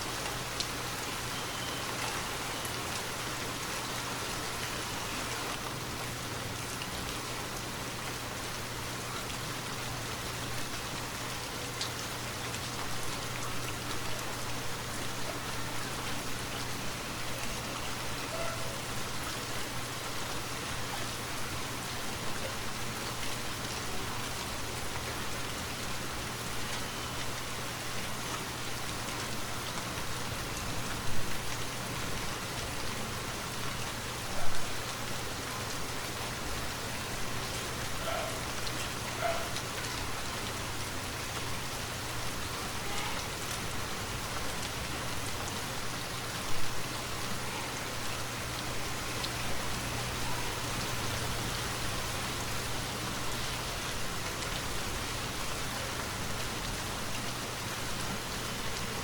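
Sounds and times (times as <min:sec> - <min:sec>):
rain on foliage: 0:00.0 - 0:59.0.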